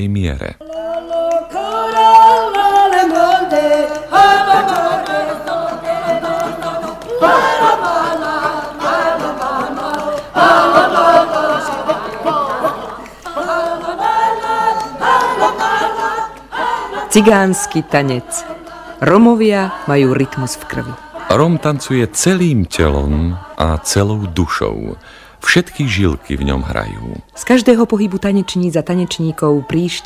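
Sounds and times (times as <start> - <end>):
group singing folk song: 0.6 - 30.0.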